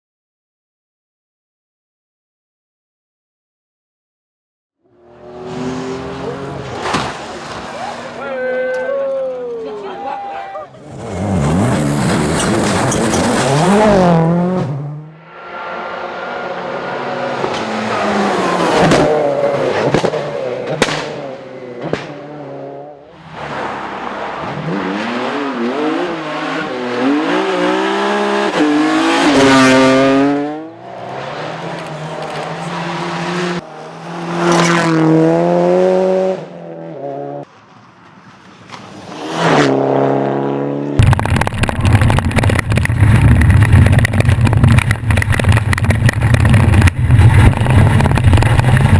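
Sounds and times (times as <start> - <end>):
rally cars at full throttle: 4.8 - 48.9.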